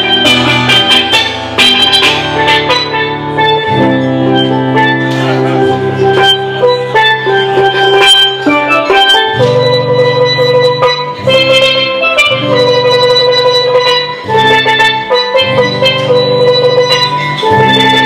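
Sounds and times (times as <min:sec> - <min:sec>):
steel pan notes: 0:00.0 - 0:18.0
strummed acoustic guitar: 0:00.1 - 0:18.0.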